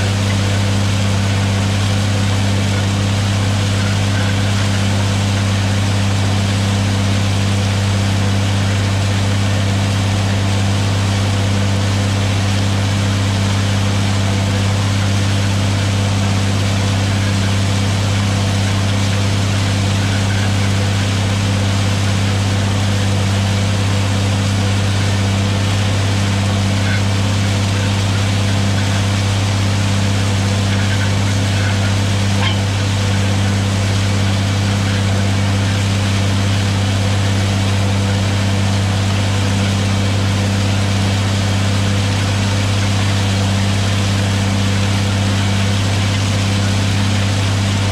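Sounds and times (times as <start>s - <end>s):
tractor diesel engine drone: 0.0s - 47.9s.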